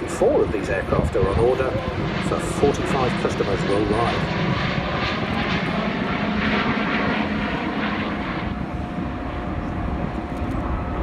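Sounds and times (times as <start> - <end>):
jet engines in flight: 0.0 - 11.0.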